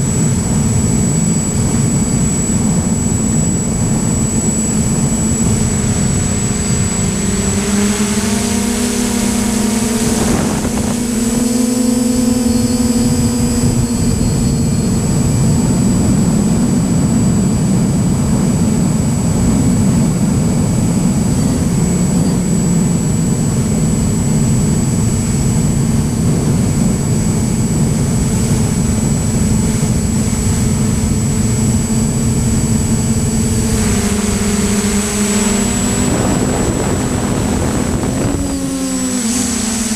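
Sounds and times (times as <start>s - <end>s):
drone motors and propellers: 0.0s - 39.9s
thin high whine: 0.0s - 39.9s.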